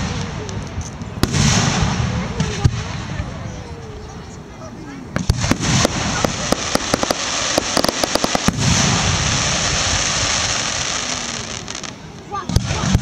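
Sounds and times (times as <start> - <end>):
firework crackling pops: 0.0 - 3.4, 5.1 - 13.0
rushing hiss with low rumble: 0.0 - 13.0.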